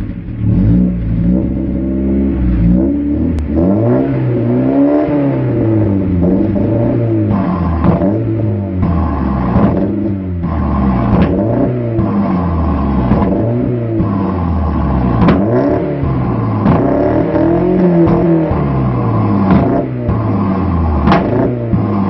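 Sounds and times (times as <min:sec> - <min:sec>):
car engine revving: 0:00.0 - 0:22.0
exhaust backfire cracks: 0:03.3 - 0:22.0.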